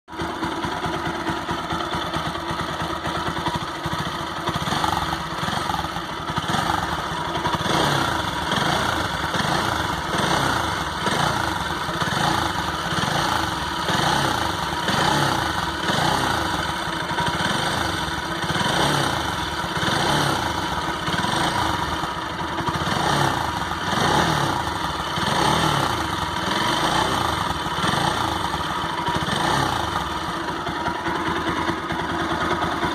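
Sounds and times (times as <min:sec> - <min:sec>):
motorcycle engine running: 0:00.1 - 0:32.9.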